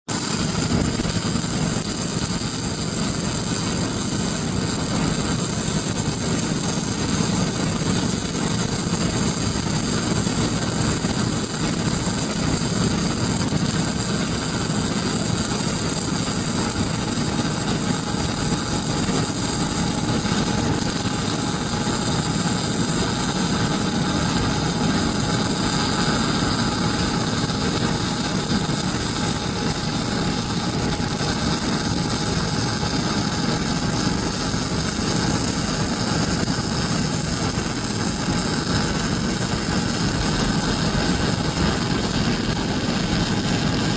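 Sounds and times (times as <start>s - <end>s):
welding arc crackling: 0.1s - 43.9s.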